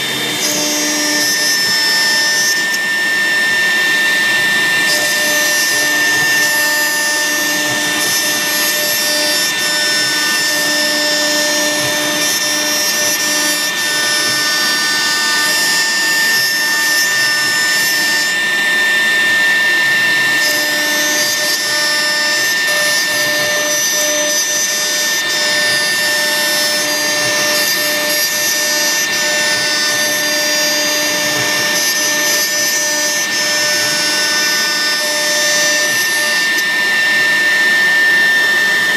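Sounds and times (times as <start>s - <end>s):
cutter hissing through plastic: 0.0s - 38.9s
router spindle whining: 0.0s - 38.9s.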